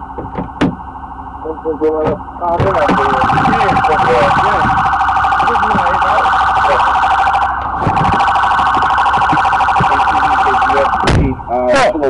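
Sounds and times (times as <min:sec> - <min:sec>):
police siren warbling: 0:00.0 - 0:12.0.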